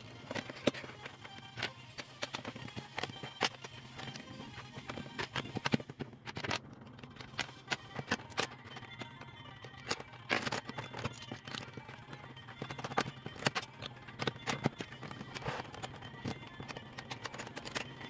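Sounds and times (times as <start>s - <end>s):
plastic bricks clicking: 0.0s - 18.0s.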